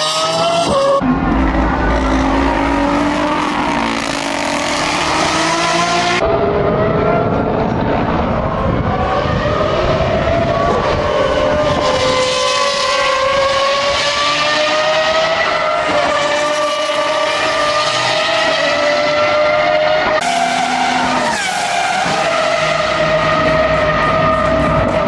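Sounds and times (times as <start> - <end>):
racing engine at high revs: 0.0 - 25.0.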